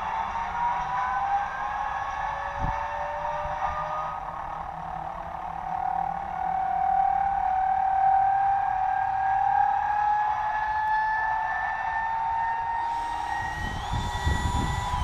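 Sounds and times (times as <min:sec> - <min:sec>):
electric jet whining: 0:00.0 - 0:15.0.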